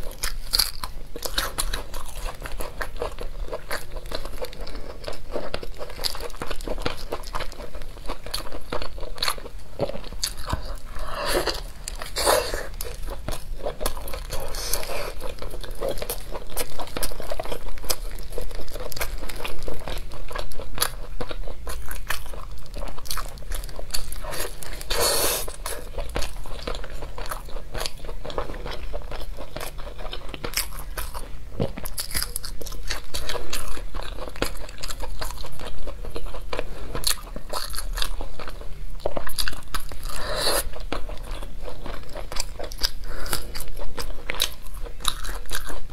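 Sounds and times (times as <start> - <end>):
chewing and biting: 0.0 - 45.9.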